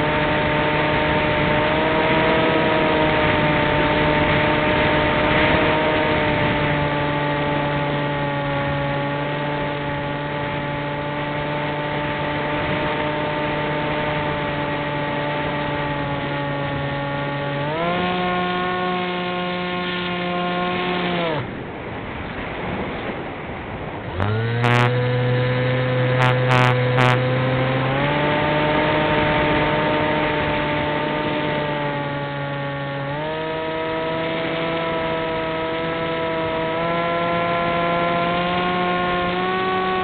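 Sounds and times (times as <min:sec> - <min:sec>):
wind rushing over microphone: 0:00.0 - 0:32.4
model airplane motor and propeller: 0:00.0 - 0:40.0.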